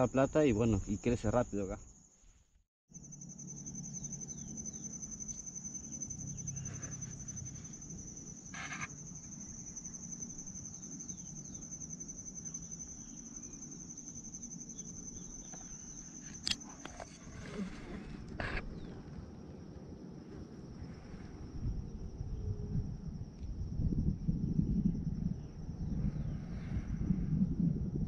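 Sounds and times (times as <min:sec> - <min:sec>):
high pulsing insect trill: 0:00.0 - 0:02.2, 0:02.9 - 0:28.0.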